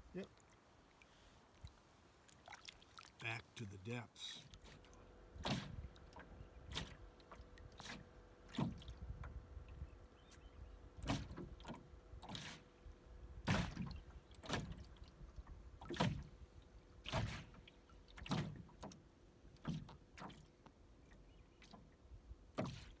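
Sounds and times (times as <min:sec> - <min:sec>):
paddle strokes splashing in water: 0:00.0 - 0:03.6, 0:04.3 - 0:23.0.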